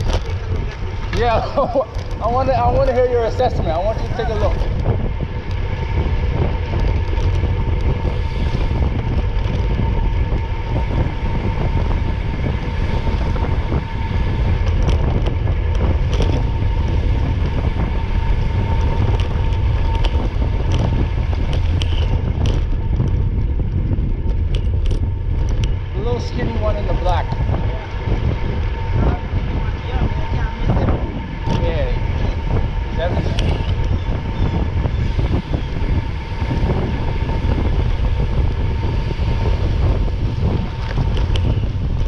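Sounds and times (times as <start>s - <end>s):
constant whine: 0.0s - 42.0s
vehicle engine drone: 0.0s - 42.0s
wind rumble on microphone: 0.0s - 42.0s.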